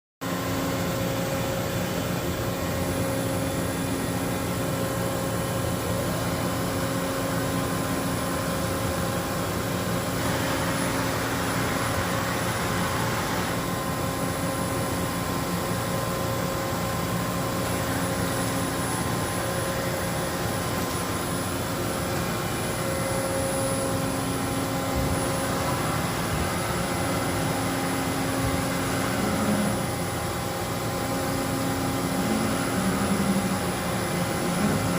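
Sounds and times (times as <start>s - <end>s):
machine hum with high whine: 0.2s - 34.9s.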